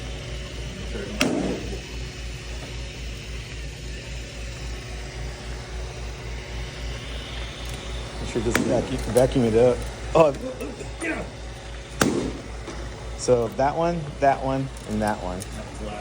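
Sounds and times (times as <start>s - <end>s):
robot vacuum humming: 0.0s - 16.0s.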